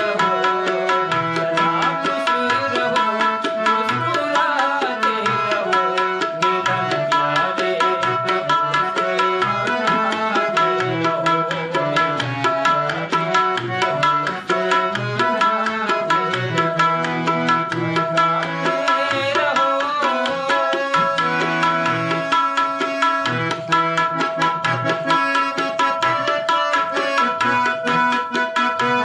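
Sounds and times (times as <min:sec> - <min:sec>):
fast tabla rhythm: 0:00.0 - 0:29.0
harmonium holding steady notes: 0:00.0 - 0:29.0.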